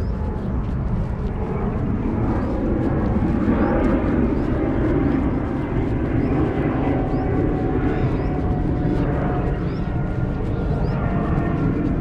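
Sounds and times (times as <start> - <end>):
faint hum: 0.0 - 12.0
low rumble: 0.0 - 12.0.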